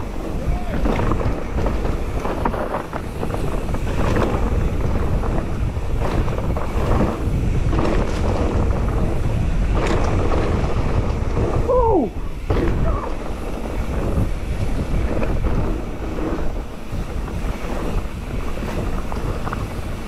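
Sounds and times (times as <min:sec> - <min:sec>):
bike clicks and rattles: 0:00.0 - 0:20.0
tyres rolling over dirt trail: 0:00.0 - 0:20.0
wind buffeting microphone: 0:00.0 - 0:20.0.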